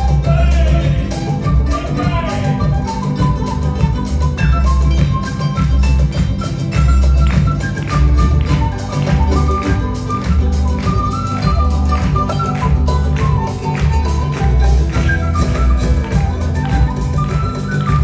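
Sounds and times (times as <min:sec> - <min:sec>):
deep bass: 0:00.0 - 0:18.0
hand percussion beat: 0:00.0 - 0:18.0
high melody line: 0:00.0 - 0:18.0.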